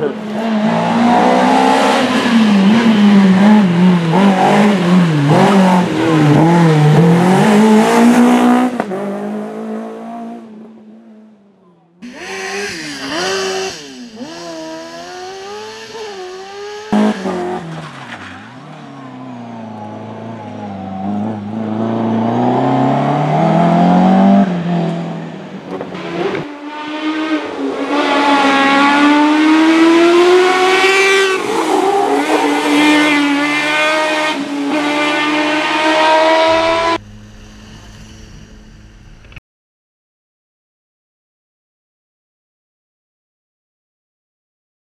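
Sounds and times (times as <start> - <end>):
race car engines at full throttle: 0.0 - 39.4.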